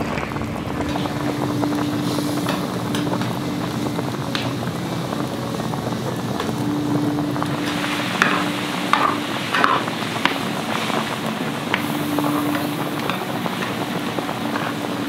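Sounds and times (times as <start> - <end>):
low hum: 0.0 - 15.0
stew boiling hard: 0.0 - 15.0.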